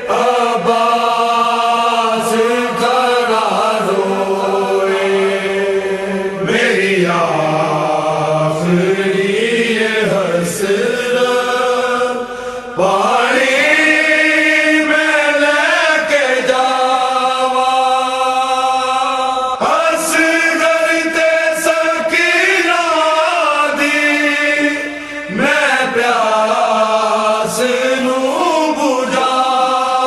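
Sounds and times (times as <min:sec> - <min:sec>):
person chanting: 0:00.0 - 0:30.0.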